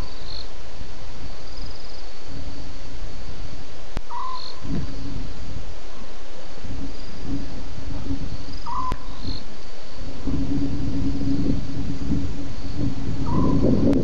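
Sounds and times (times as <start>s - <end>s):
crickets trilling: 0.0s - 14.0s
low steady hum: 0.0s - 14.0s.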